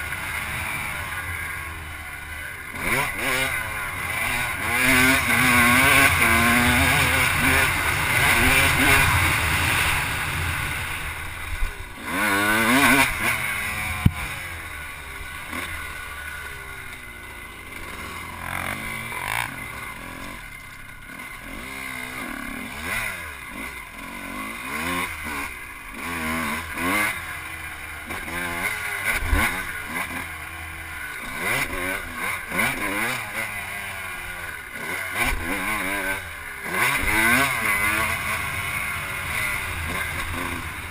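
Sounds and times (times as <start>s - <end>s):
off-road engine revving: 0.0s - 40.9s.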